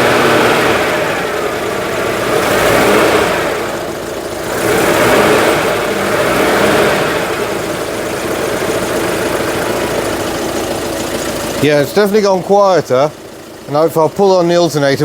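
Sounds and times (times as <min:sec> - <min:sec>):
alternator noise: 0:00.0 - 0:15.0
car engine running: 0:00.0 - 0:15.0.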